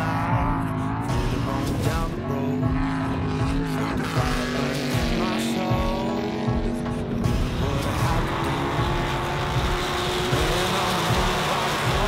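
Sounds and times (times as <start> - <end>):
race buggy engine revving: 0.0 - 12.0.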